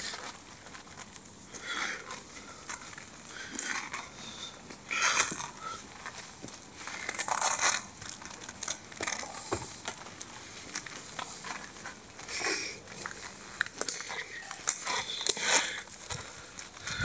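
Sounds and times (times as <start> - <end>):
branches rustling: 0.0 - 17.0
footsteps crunching over rubble: 0.0 - 17.0.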